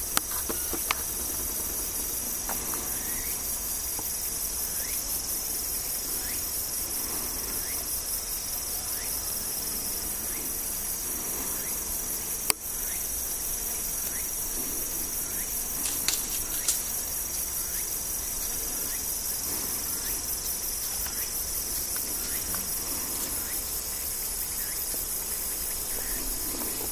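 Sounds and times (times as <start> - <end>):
insects singing: 0.0 - 26.9.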